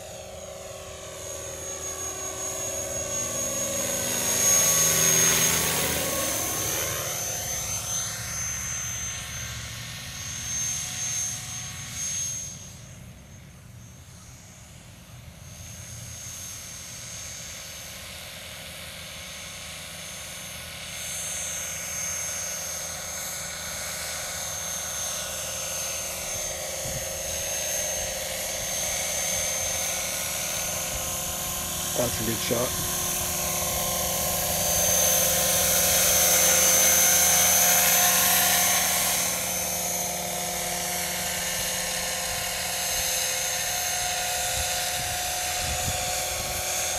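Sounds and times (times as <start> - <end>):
model helicopter flying: 0.0 - 46.9.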